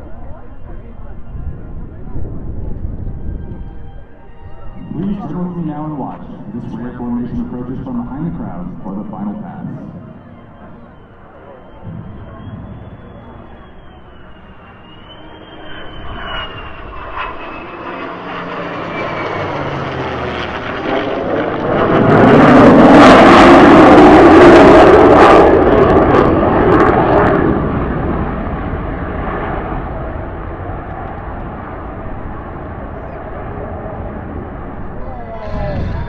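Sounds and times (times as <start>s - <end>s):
jet and propeller planes flying over: 0.0s - 36.0s.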